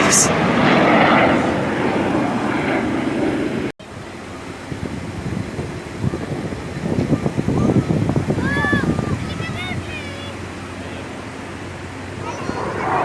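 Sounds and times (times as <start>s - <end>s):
jet aircraft flying past: 0.0s - 6.5s, 7.1s - 13.0s
wind buffeting microphone: 0.0s - 13.0s.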